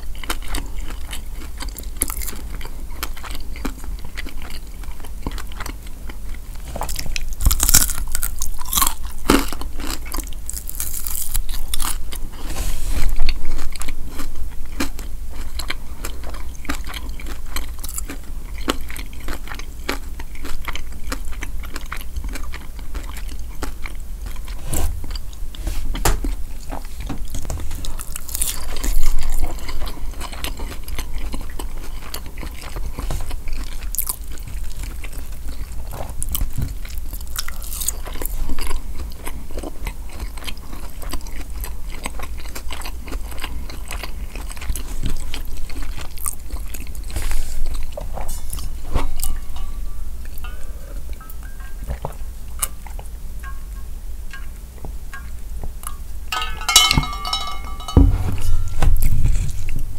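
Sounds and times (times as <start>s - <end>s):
chewing crunchy chicken wing: 0.0s - 12.4s, 13.1s - 25.4s, 26.2s - 53.6s.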